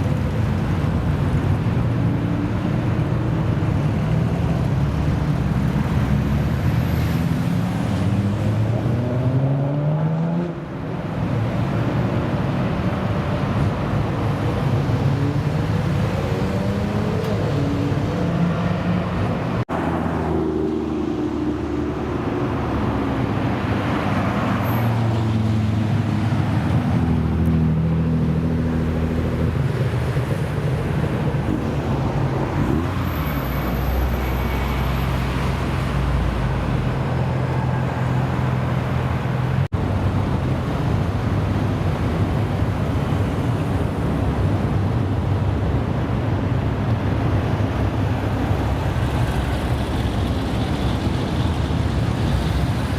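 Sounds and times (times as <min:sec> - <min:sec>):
car engines revving and accelerating: 0:00.0 - 0:52.9.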